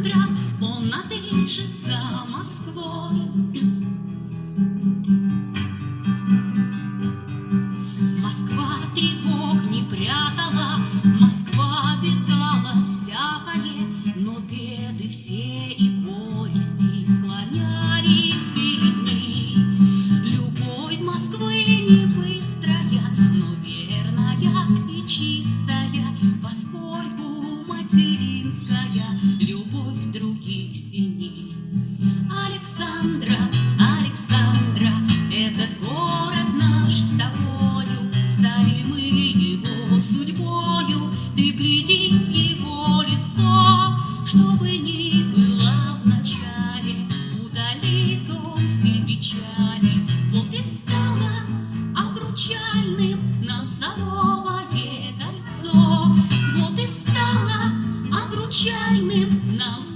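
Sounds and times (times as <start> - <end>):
woman singing: 0.0 - 3.9, 8.0 - 59.9
acoustic guitar strumming: 0.0 - 59.9.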